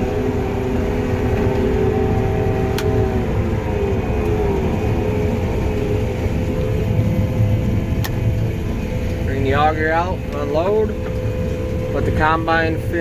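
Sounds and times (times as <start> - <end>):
combine harvester machinery running: 0.0 - 13.0.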